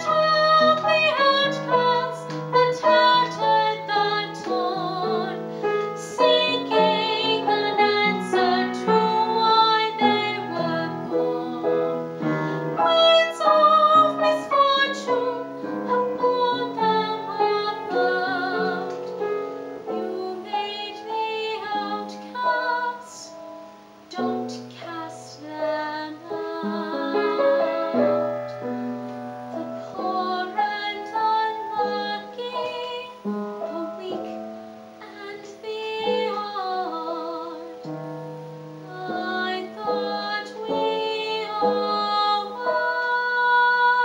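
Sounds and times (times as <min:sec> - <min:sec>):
girl singing a ballad: 0:00.0 - 0:44.0
piano accompaniment: 0:00.0 - 0:44.0.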